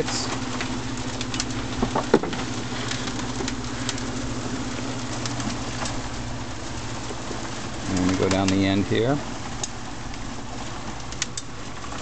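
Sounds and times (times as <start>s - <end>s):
motorized screener humming: 0.0s - 12.0s.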